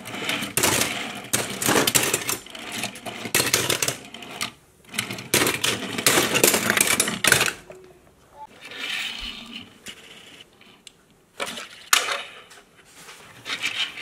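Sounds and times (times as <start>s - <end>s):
toy cars clattering: 0.0s - 7.8s, 8.5s - 12.7s.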